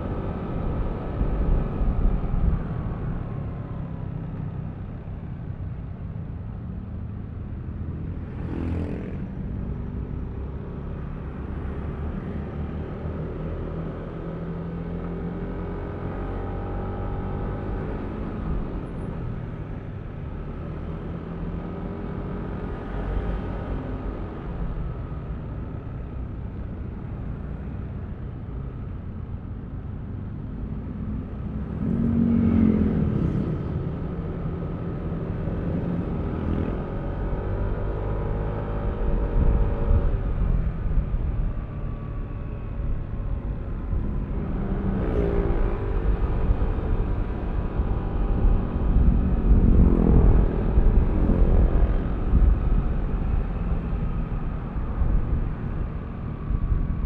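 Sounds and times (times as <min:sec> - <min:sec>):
road and wind rumble: 0:00.0 - 0:57.0.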